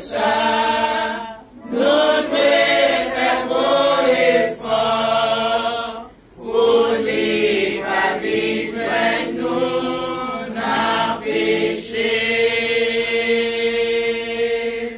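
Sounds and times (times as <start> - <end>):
congregation singing a hymn: 0.0 - 14.9.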